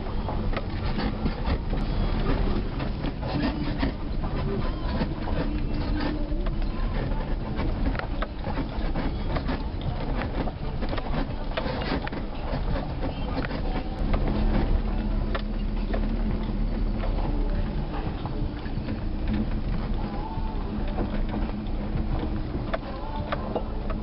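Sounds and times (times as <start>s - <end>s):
rattles and knocks: 0.0s - 24.0s
road and engine rumble: 0.0s - 24.0s.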